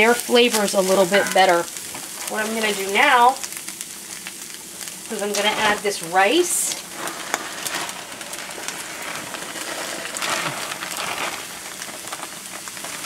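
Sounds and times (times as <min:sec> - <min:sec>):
meat sizzling in a skillet: 0:00.0 - 0:13.0
rice pattering onto meat: 0:00.0 - 0:13.0.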